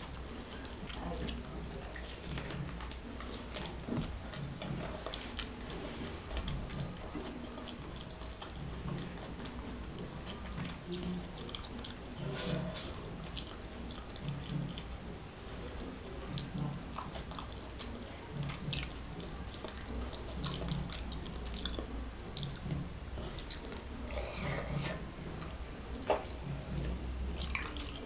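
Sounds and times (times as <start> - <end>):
chewing soft food: 0.0 - 28.0.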